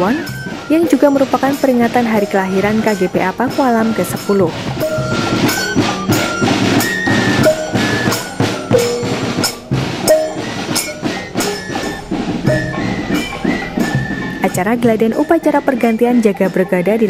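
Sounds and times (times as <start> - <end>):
fifes playing melody: 0.0 - 17.0
marching drums: 0.0 - 17.0.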